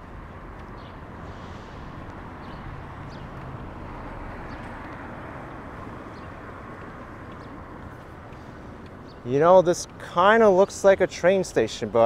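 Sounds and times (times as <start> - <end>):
city street background noise: 0.0 - 12.0.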